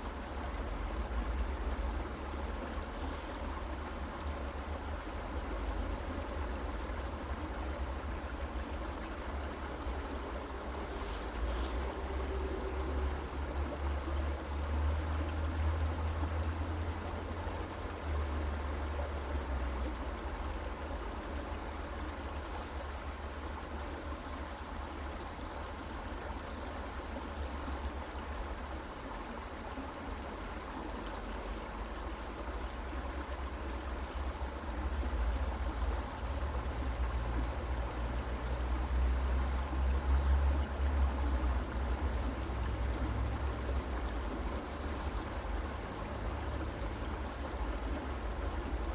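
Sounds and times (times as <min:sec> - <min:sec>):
creek water babbling: 0:00.0 - 0:48.9.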